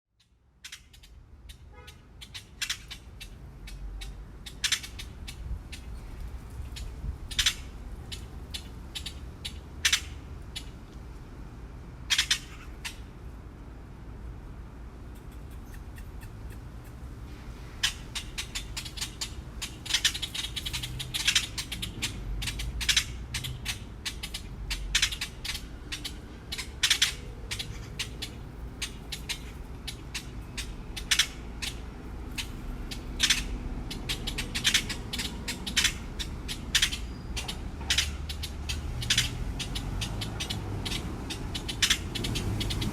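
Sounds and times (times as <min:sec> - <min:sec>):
magpies squawking and chattering: 0:00.6 - 0:10.8, 0:12.0 - 0:13.2, 0:15.0 - 0:17.1, 0:17.7 - 0:42.9.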